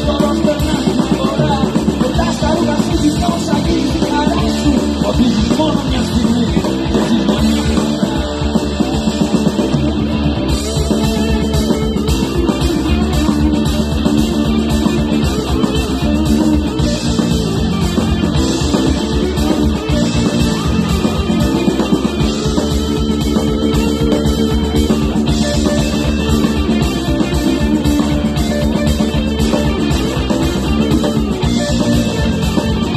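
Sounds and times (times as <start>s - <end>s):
bass guitar: 0.0s - 32.9s
drums: 0.0s - 32.9s
electric guitar: 0.0s - 32.9s.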